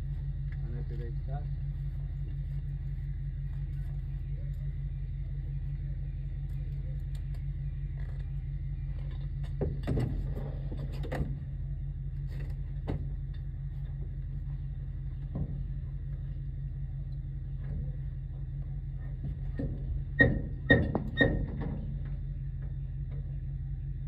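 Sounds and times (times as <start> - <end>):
engine running with low hum: 0.0 - 24.0.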